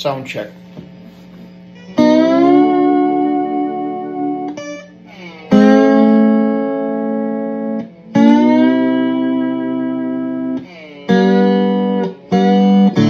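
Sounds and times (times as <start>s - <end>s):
slide electric guitar: 1.7s - 13.0s.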